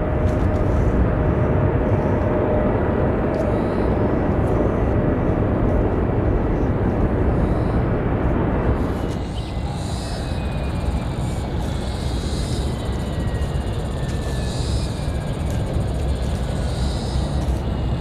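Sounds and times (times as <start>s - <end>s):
aeroplane engine rumble: 0.0s - 18.0s.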